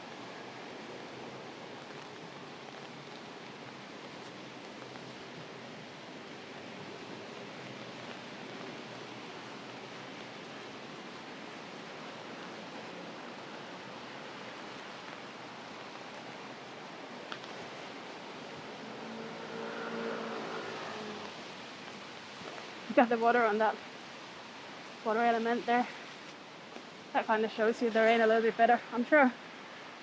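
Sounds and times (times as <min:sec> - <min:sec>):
rain on an umbrella: 0:00.0 - 0:30.0.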